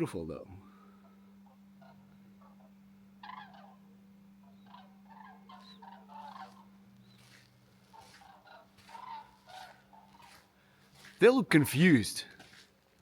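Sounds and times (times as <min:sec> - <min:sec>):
steady low hum: 0:00.0 - 0:13.0
faint bird calls: 0:00.6 - 0:11.2.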